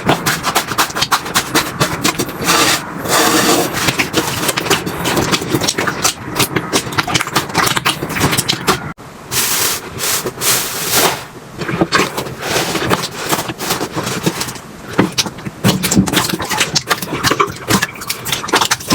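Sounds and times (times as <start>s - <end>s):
slime squelching: 0.0s - 18.9s.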